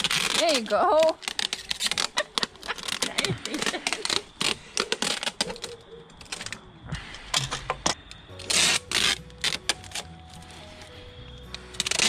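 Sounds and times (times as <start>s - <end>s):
tape ripping off roll: 0.0s - 6.6s, 7.3s - 12.0s.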